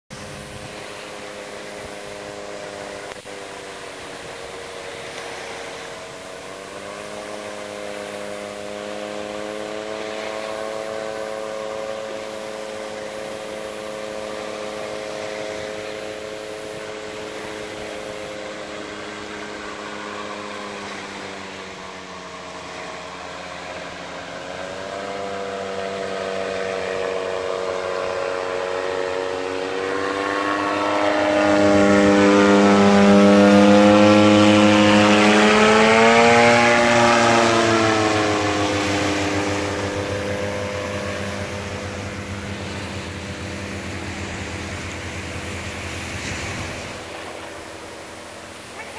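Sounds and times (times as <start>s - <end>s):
paramotor engine and propeller droning: 0.0s - 48.9s.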